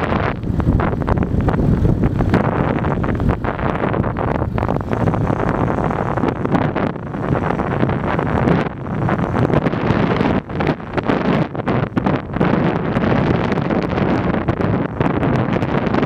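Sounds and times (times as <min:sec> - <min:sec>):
car driving on asphalt: 0:00.0 - 0:16.0
wind buffeting microphone: 0:00.0 - 0:16.0.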